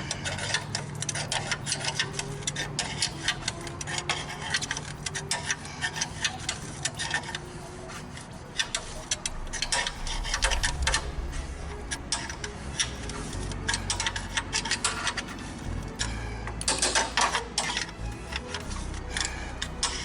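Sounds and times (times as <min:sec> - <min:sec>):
hand tools clicking on steel: 0:00.0 - 0:10.9, 0:12.1 - 0:20.0
steady low hum: 0:00.0 - 0:20.0.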